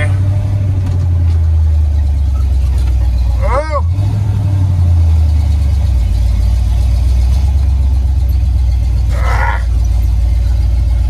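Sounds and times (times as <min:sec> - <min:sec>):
pickup truck engine running: 0:00.0 - 0:11.0.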